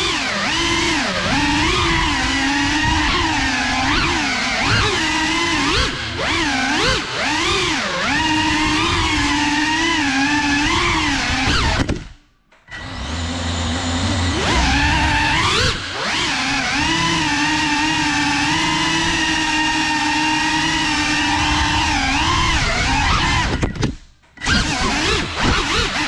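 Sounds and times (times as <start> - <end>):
drone motors whining: 0.0 - 12.1, 12.7 - 26.0.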